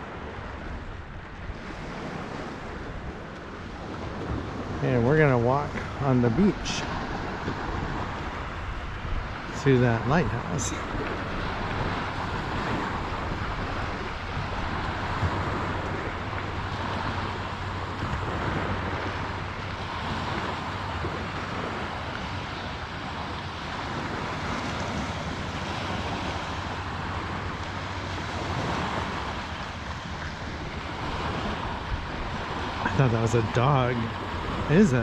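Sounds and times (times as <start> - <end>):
small waves washing on shore: 0.0 - 35.0
wind noise on microphone: 0.0 - 35.0.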